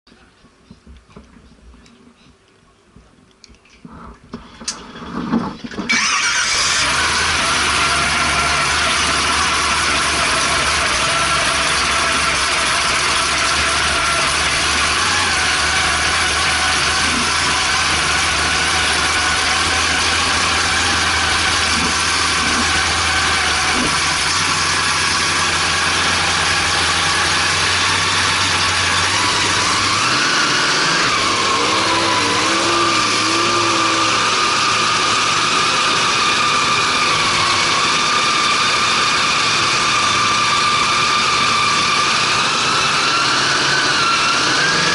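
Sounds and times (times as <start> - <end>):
boat engine running: 4.0 - 44.9.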